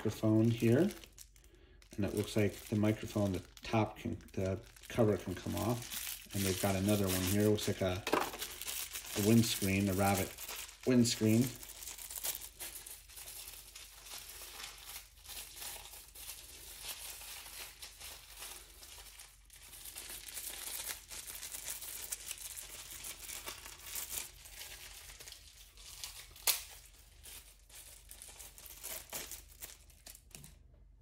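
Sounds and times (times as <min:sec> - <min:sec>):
plastic bag crinkling: 0:00.0 - 0:30.7.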